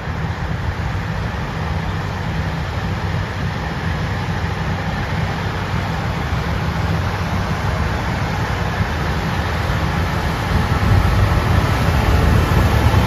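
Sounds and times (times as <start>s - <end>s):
diesel engine rumbling: 0.0s - 13.0s
rushing noise: 0.0s - 13.0s.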